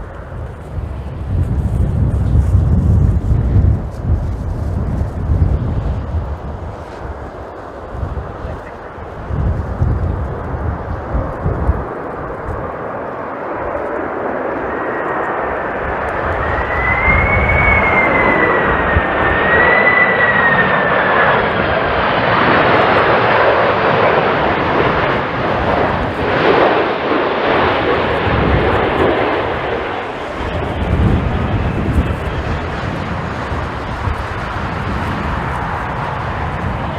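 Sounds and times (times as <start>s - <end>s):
jet airliner passing: 0.0s - 36.9s.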